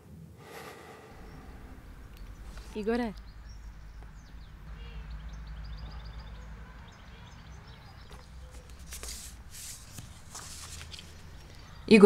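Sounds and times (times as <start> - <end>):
small birds chirping: 0.8 - 12.0.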